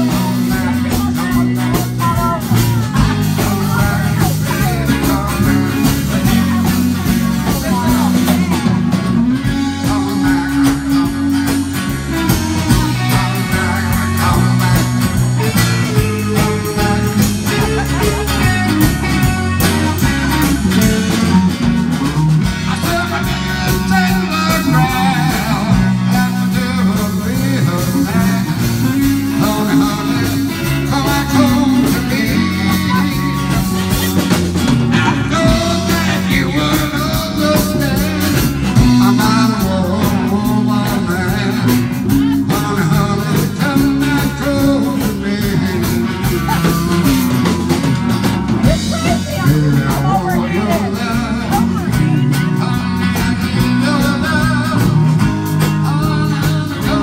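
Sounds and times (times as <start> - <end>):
drum kit: 0.0 - 57.0
guitars: 0.0 - 57.0
man singing: 0.0 - 57.0.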